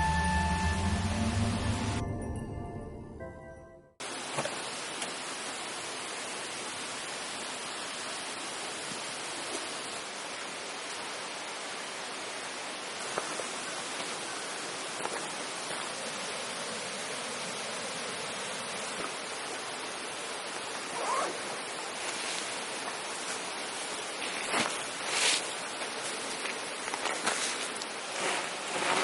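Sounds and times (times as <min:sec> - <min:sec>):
flowing water rushing: 0:04.0 - 0:29.0.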